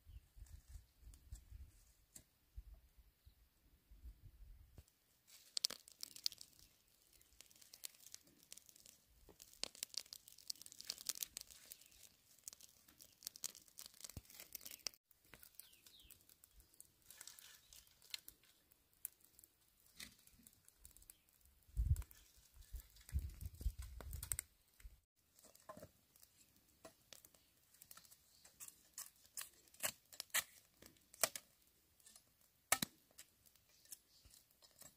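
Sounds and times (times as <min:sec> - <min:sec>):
dry twigs crackling in fire: 0:05.2 - 0:34.9.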